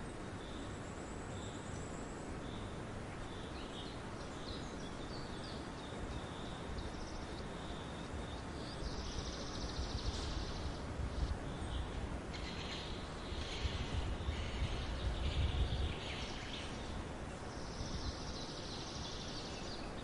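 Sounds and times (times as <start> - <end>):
outdoor ambience hiss: 0.0 - 20.0
songbirds chirping: 0.0 - 20.0.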